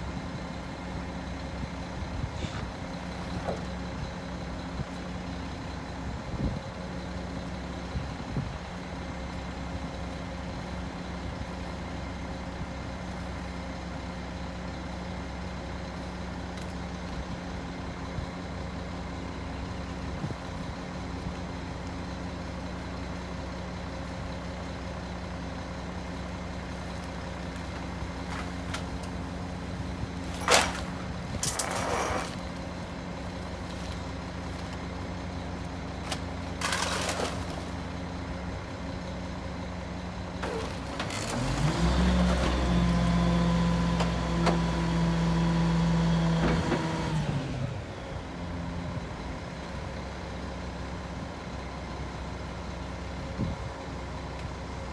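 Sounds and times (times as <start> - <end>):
truck diesel engine idling: 0.0 - 41.4, 47.3 - 54.9.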